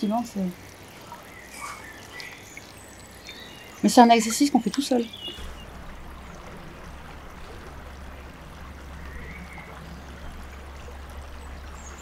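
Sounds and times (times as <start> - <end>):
low steady rumble: 0.0 - 12.0
water trickling over stone: 0.0 - 12.0.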